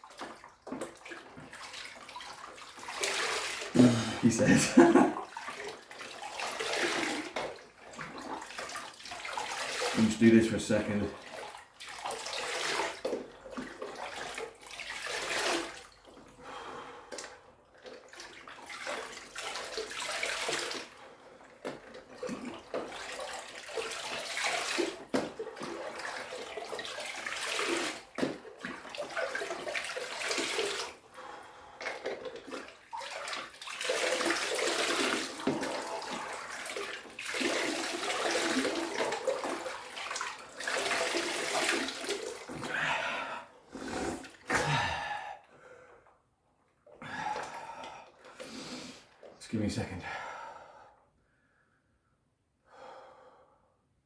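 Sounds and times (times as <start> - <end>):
ice water sloshing and splashing: 0.0 - 45.3, 46.8 - 49.7.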